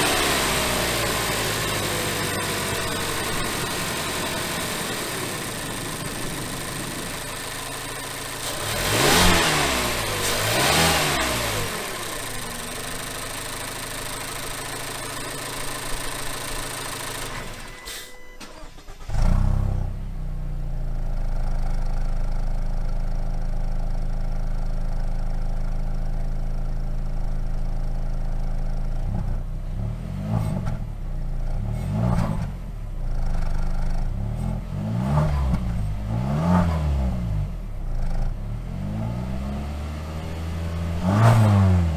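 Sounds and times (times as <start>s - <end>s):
car engine revving and idling: 0.0s - 41.9s
car engine starting: 0.0s - 41.9s.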